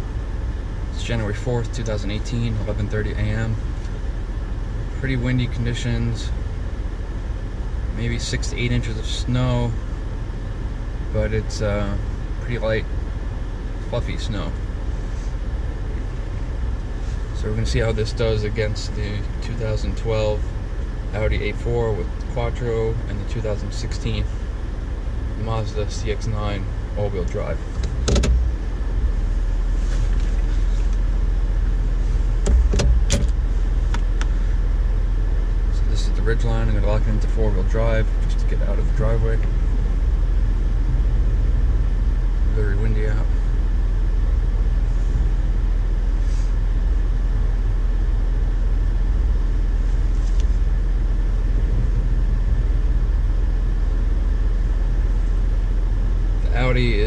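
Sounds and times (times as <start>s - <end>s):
engine running inside cab: 0.0s - 57.0s
vehicle idling: 0.0s - 57.0s.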